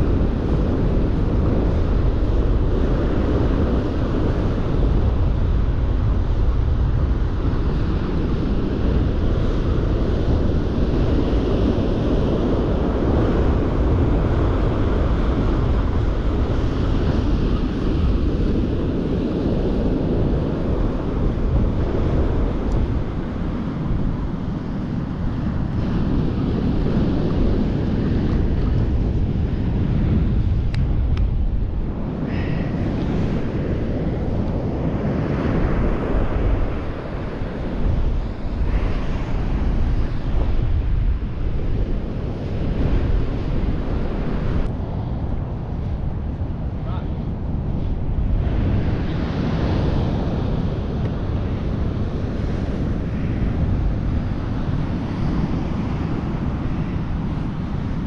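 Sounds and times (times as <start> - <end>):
surf washing: 0.0 - 58.0
wind buffeting microphone: 0.0 - 58.0.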